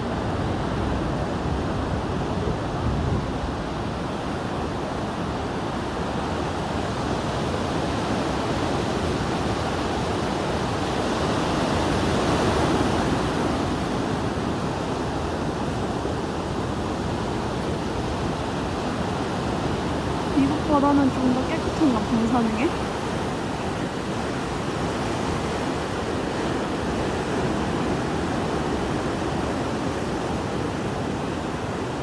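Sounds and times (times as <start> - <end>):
ocean surf breaking on beach: 0.0 - 32.0.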